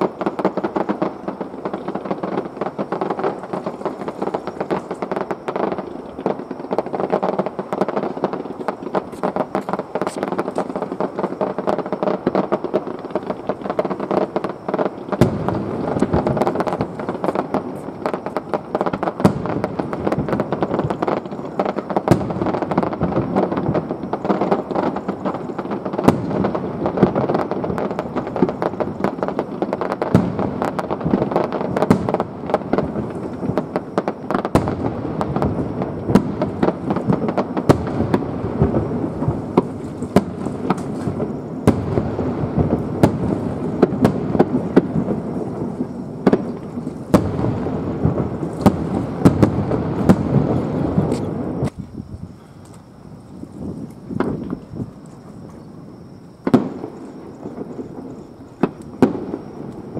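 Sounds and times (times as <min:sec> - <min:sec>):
fireworks bangs and cracks: 0:00.0 - 0:59.9.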